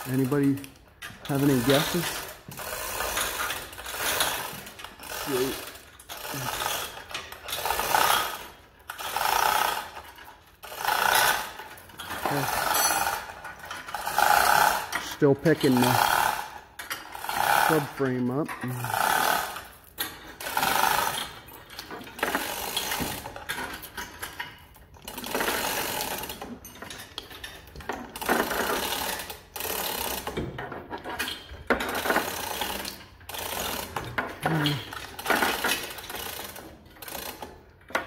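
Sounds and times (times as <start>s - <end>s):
chain hoist clattering: 0.0s - 38.0s.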